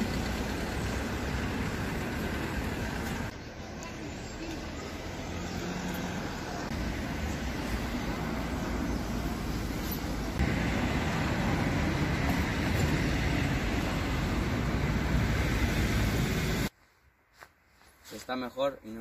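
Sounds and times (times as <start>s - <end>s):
city traffic rumble: 0.0s - 18.2s.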